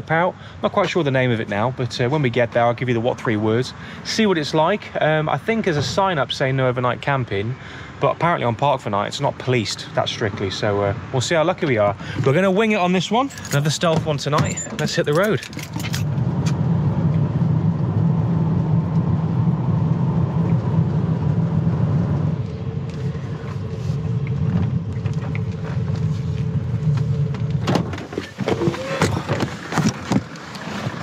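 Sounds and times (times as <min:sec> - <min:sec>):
van engine and road drone: 0:00.0 - 0:31.0.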